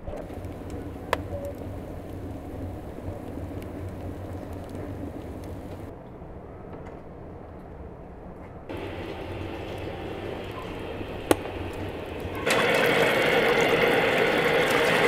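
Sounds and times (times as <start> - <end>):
fire crackling: 0.0 - 5.9, 8.7 - 15.0
fire rushing: 0.0 - 5.9, 8.7 - 15.0
low fire rumble: 0.0 - 5.9, 8.7 - 15.0.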